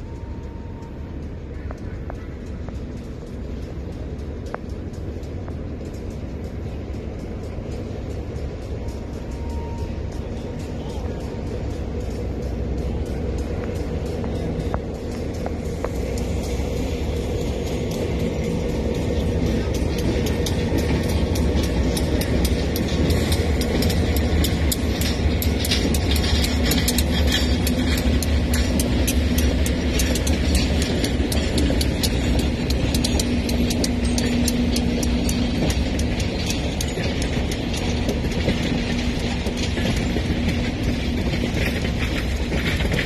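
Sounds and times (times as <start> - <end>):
train rumble: 0.0 - 43.0
train wheels clicking over rail joints: 0.0 - 43.0.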